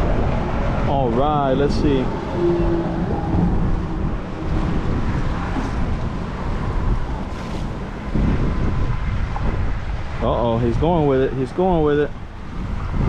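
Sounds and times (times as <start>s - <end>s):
low outdoor rumble: 0.0s - 13.0s
wind buffeting microphone: 0.0s - 13.0s.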